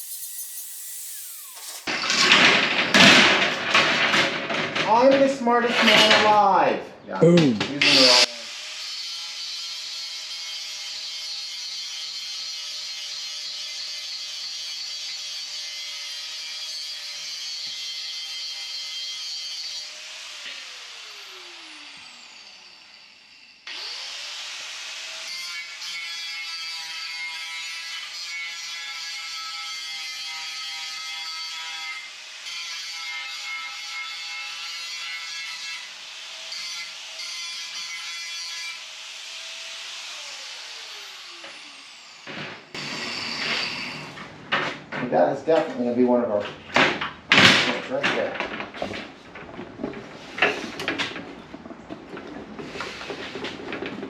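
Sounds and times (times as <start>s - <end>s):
power tool grinding metal: 0.0s - 3.7s, 7.2s - 47.1s.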